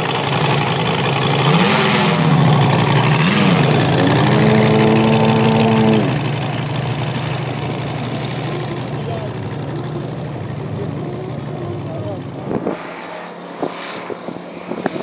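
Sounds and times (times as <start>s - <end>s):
model airplane engine idling: 0.0s - 15.0s.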